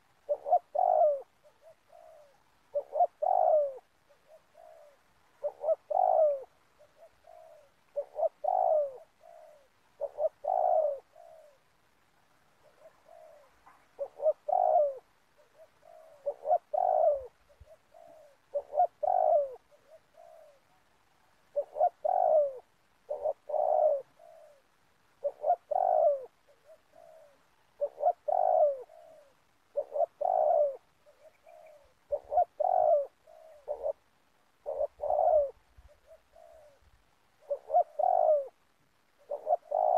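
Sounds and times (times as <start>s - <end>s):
dove cooing: 0.0s - 11.7s, 12.6s - 39.9s.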